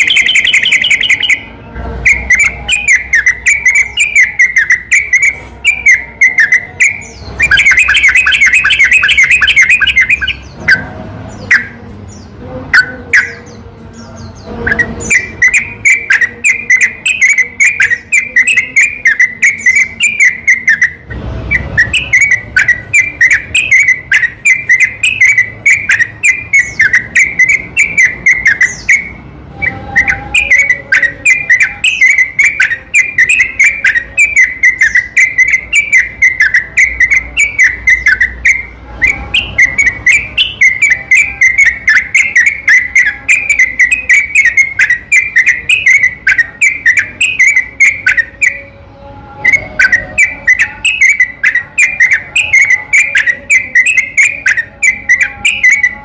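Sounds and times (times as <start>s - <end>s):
bird singing whistled notes: 0.0s - 48.7s, 49.4s - 56.0s.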